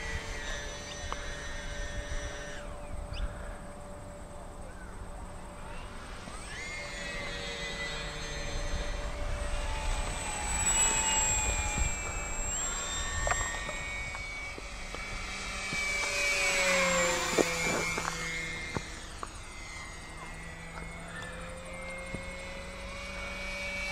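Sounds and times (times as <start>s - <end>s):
model plane motor whining: 0.0s - 23.9s.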